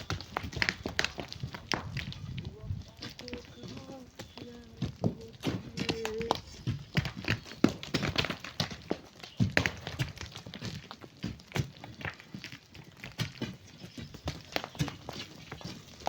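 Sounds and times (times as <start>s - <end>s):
stones and sand clattering: 0.0s - 16.0s.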